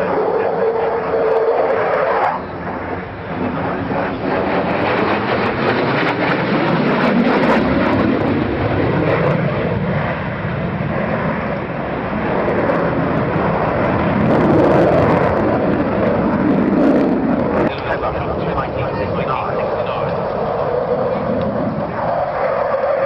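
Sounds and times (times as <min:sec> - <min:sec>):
aircraft flying past: 0:00.0 - 0:23.0.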